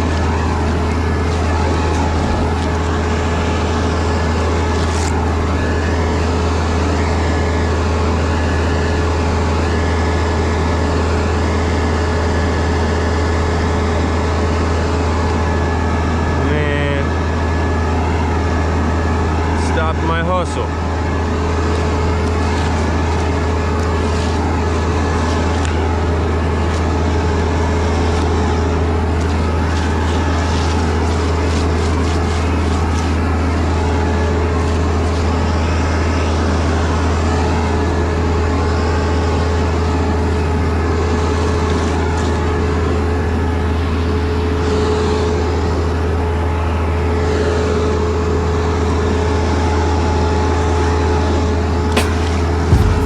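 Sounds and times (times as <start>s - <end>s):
heavy engine droning: 0.0s - 48.3s, 51.5s - 53.0s.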